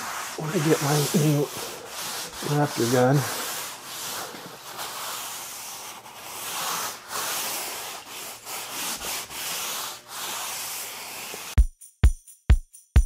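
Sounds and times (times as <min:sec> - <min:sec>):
cloth rag rubbing panel: 0:00.0 - 0:11.6.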